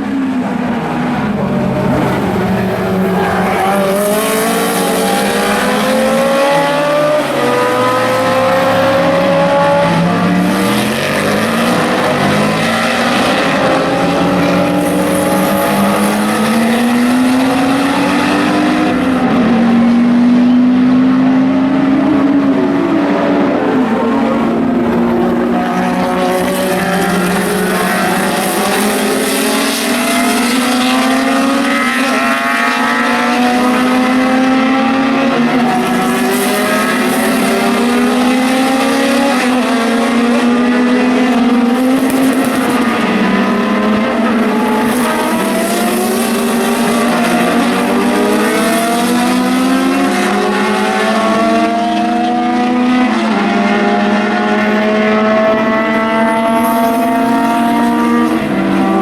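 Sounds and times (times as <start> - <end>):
race cars accelerating past: 0.0 - 59.0.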